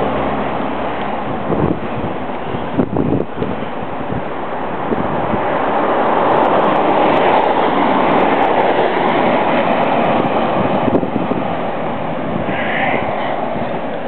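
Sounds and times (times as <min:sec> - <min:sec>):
cars driving past: 0:00.0 - 0:14.0
wind on microphone: 0:00.0 - 0:14.0.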